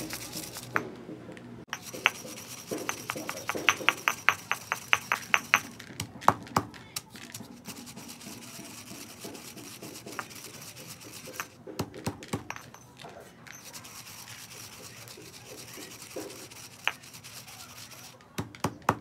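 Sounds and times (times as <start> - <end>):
pestle grinding in stone mortar: 0.0 - 0.9, 1.7 - 19.0.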